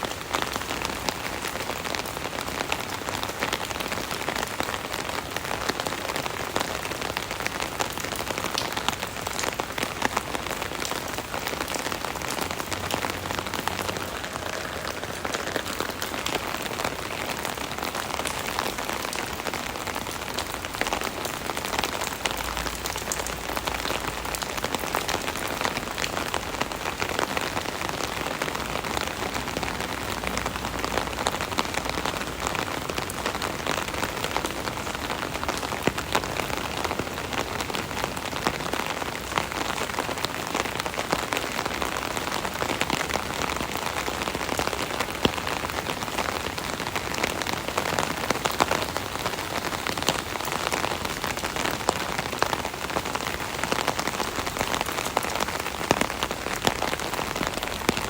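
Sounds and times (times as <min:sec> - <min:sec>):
rain falling on an umbrella: 0:00.0 - 0:58.0.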